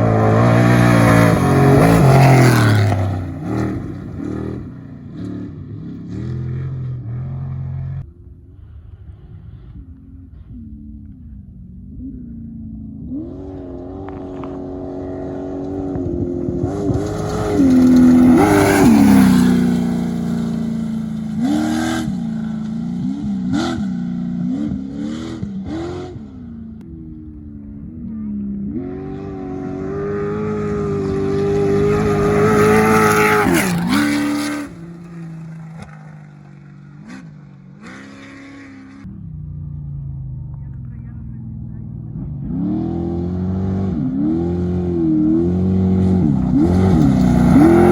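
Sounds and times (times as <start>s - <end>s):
race vehicles accelerating past: 0.0s - 8.0s, 13.1s - 26.5s, 27.3s - 47.9s.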